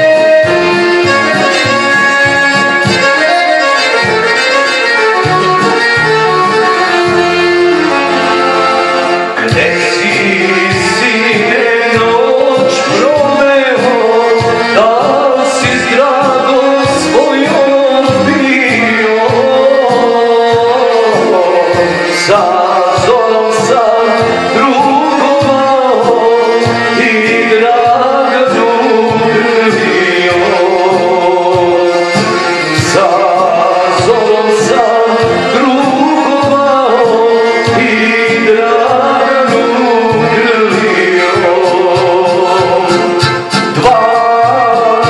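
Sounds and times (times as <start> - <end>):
amplified backing music: 0.0 - 45.0
man singing into microphone: 0.0 - 45.0.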